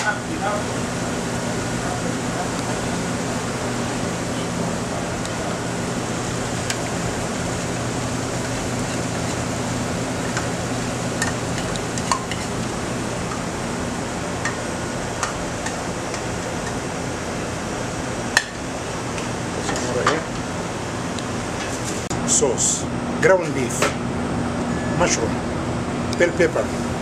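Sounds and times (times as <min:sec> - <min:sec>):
exhaust fan drone: 0:00.0 - 0:27.0.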